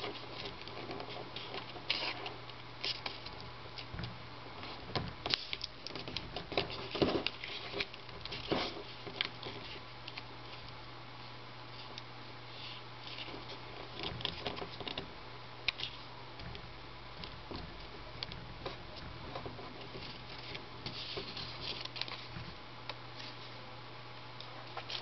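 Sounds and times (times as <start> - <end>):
paper rustling and crinkling: 0.0 - 10.8, 11.7 - 15.1, 15.7 - 16.6, 17.2 - 23.6, 24.7 - 25.0
steady low hum: 0.0 - 25.0.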